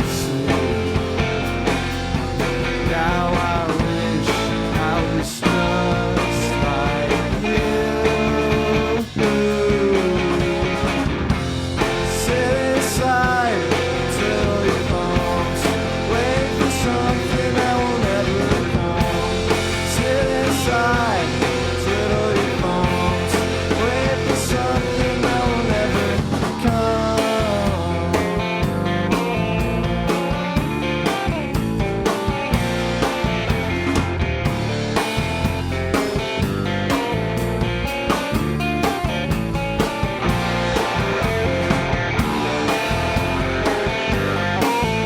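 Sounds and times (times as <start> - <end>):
rock band playing live: 0.0 - 45.0.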